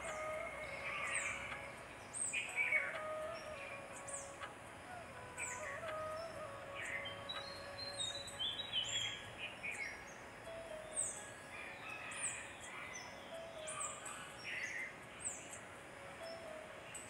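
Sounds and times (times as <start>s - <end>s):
birds chirping: 0.0s - 17.0s
faint steady hiss: 0.0s - 17.0s.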